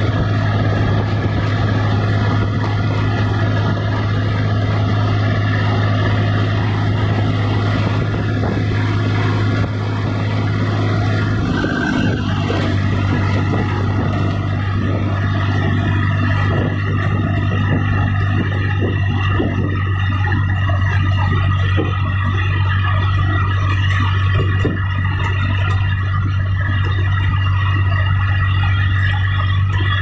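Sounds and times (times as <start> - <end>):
tractor diesel engine drone: 0.0 - 30.0.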